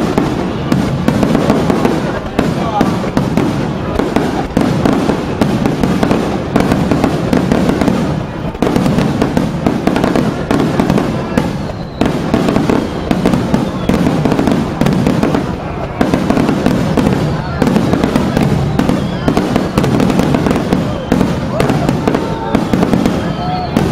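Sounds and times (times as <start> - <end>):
fireworks booming and crackling: 0.0 - 23.9.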